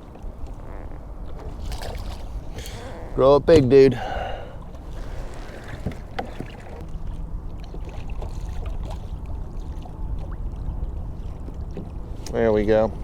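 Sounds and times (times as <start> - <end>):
wind and water against hull: 0.0 - 13.0.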